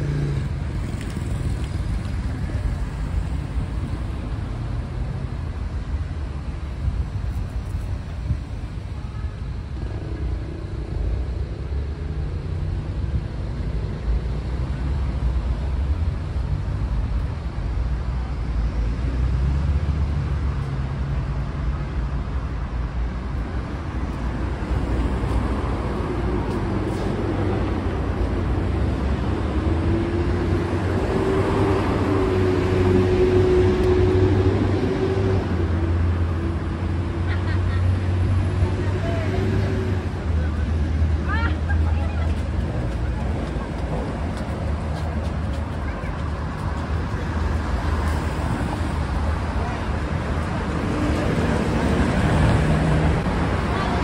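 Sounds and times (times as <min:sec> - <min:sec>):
traffic passing: 0:00.0 - 0:54.0
vehicle engine hum: 0:00.0 - 0:54.0.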